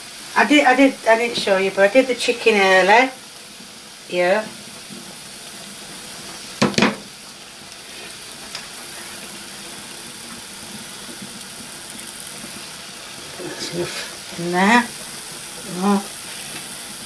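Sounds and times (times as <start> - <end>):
pasta boiling in a pan: 0.0 - 17.0.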